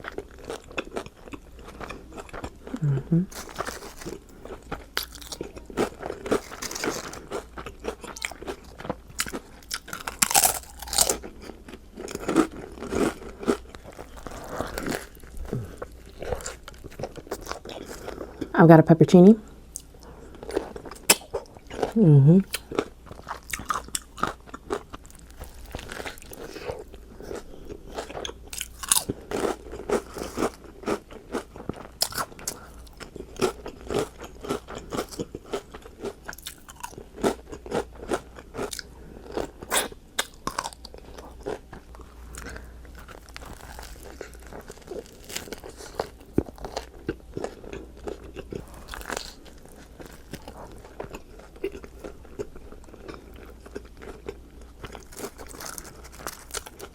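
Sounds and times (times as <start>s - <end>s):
person chewing crunchy food: 0.0s - 18.5s, 19.7s - 56.9s.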